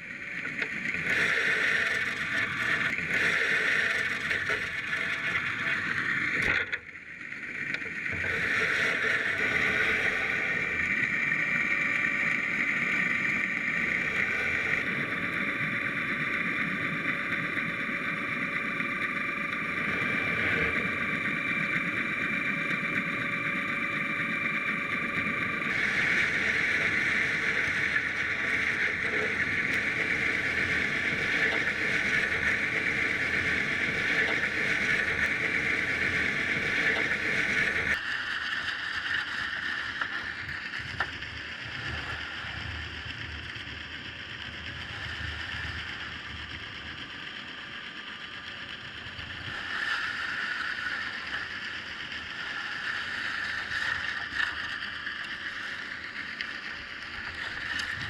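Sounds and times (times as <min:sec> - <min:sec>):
mechanical hum with hiss: 0:00.0 - 0:58.0.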